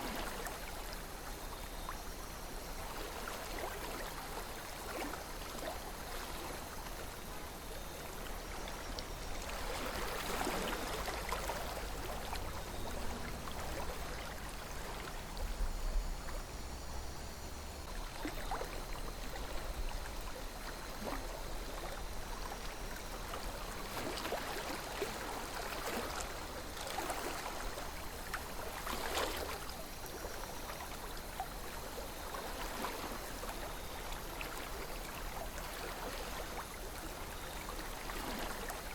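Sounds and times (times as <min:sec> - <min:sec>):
river flowing: 0:02.0 - 0:38.9
small water splashes: 0:02.8 - 0:15.2, 0:17.8 - 0:38.9.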